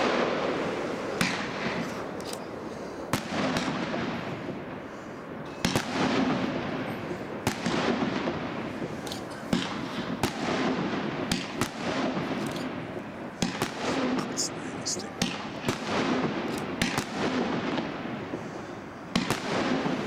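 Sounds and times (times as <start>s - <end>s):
continuous rushing noise: 0.0s - 20.0s
fireworks bangs: 0.0s - 20.0s.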